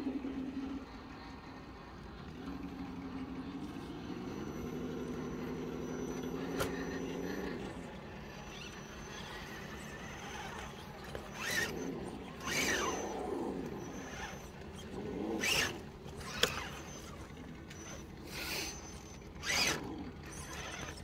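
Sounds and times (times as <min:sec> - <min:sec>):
electric motor whining in bursts: 0:02.4 - 0:21.0.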